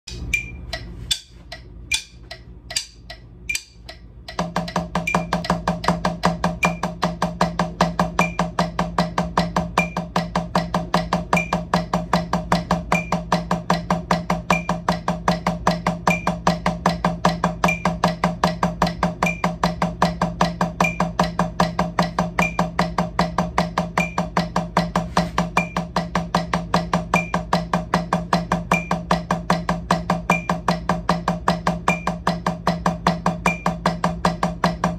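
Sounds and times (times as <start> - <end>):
drumsticks on practice pad: 0.1 - 34.9.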